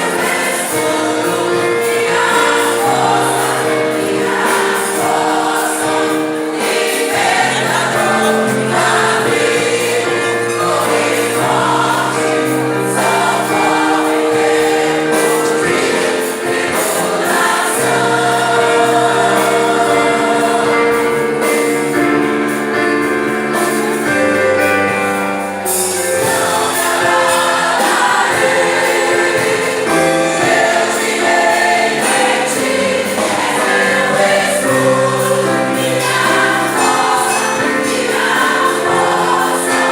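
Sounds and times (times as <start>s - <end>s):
choir singing a hymn: 0.0s - 39.9s
instrumental accompaniment: 0.0s - 39.9s.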